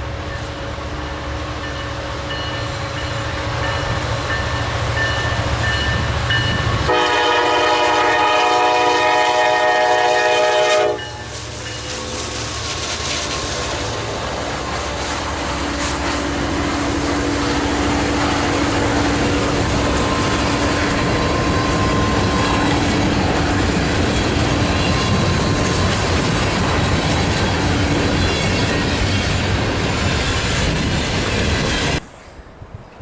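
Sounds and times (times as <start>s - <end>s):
train wheels clattering on rail: 1.6s - 32.2s.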